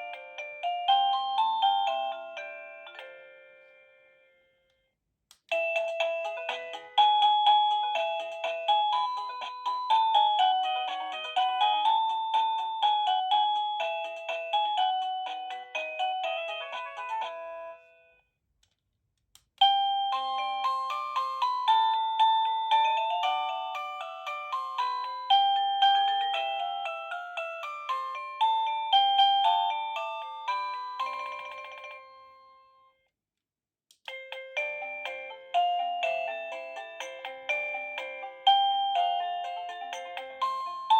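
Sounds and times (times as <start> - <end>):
electronic doorbell chime melody: 0.0 - 4.7, 5.5 - 18.2, 19.6 - 33.0, 34.1 - 40.9.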